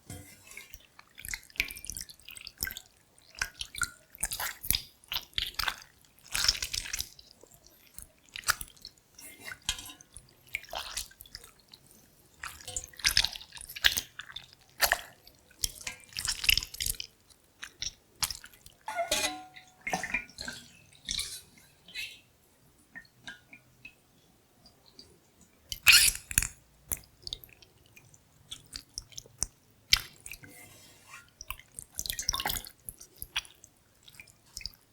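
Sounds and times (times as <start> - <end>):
wet slimy squelches: 0.4 - 11.8, 12.4 - 22.0, 25.7 - 34.9.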